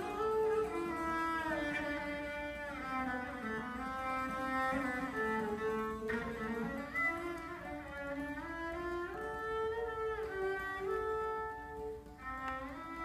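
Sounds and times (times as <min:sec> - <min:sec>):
bouzouki playing: 0:00.0 - 0:13.0
bowed cello melody: 0:00.0 - 0:13.0.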